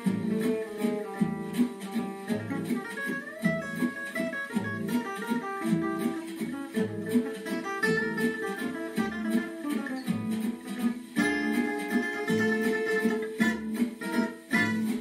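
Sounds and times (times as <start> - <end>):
solo jazz guitar: 0.0 - 15.0.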